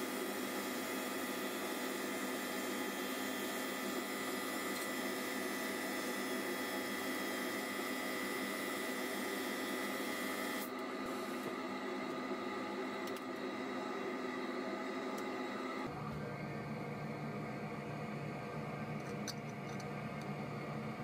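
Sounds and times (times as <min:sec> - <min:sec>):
wood lathe whine and hum: 0:00.0 - 0:19.4.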